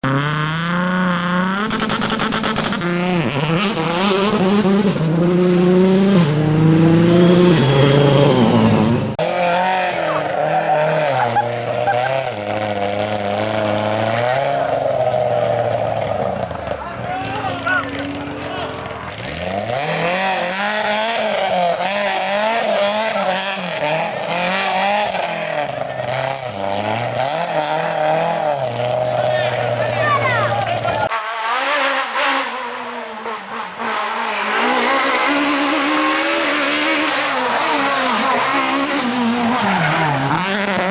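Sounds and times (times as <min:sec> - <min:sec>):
another engine: 0:00.0 - 0:40.9
rally car engine revving: 0:00.0 - 0:40.9.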